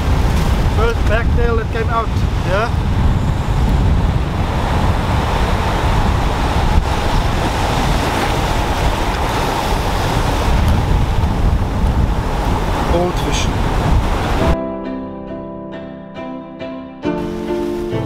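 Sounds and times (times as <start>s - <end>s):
surf washing up beach: 0.0s - 14.6s, 17.2s - 18.0s
wind buffeting microphone: 0.0s - 14.6s.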